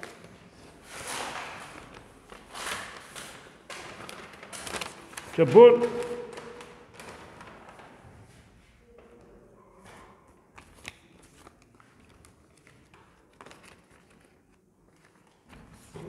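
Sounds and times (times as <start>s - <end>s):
paper rustling and crinkling: 0.0s - 8.6s, 9.8s - 16.0s.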